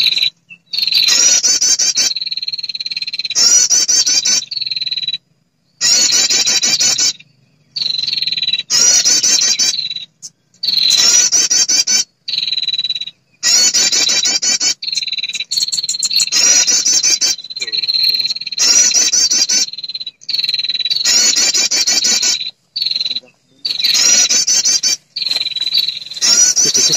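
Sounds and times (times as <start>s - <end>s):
buzzy chattering bird trill: 0.0s - 5.2s, 5.8s - 26.9s.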